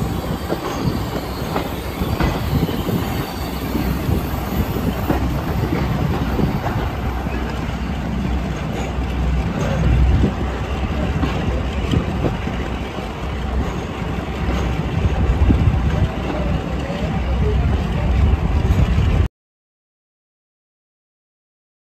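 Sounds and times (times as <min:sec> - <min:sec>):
wind buffeting microphone: 0:00.0 - 0:07.5, 0:09.2 - 0:19.3
diesel train rumbling: 0:00.0 - 0:19.3.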